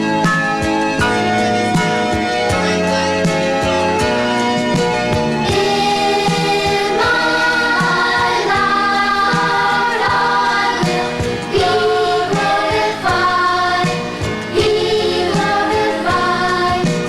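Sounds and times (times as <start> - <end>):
instrumental backing with beat: 0.0 - 17.0
children's choir singing: 1.0 - 3.8, 5.2 - 17.0.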